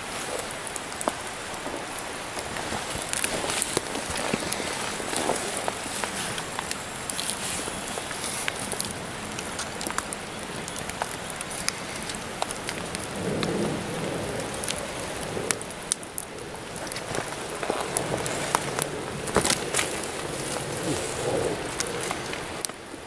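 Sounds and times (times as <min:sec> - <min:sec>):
rain hiss: 0:00.0 - 0:23.0
raindrops ticking on surfaces: 0:00.0 - 0:23.0.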